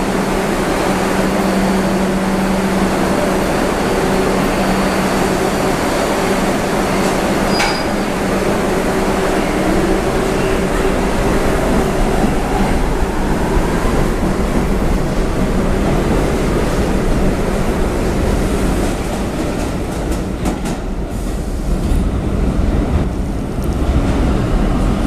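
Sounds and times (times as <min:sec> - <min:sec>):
subway train rumbling past: 0:00.0 - 0:25.0.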